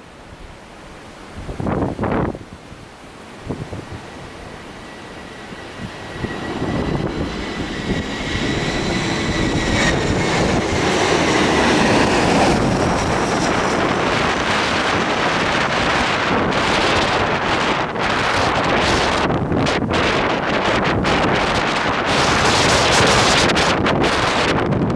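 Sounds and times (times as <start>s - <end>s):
jet airliner engine whine: 1.5s - 24.9s
jet noise rushing: 3.2s - 24.9s.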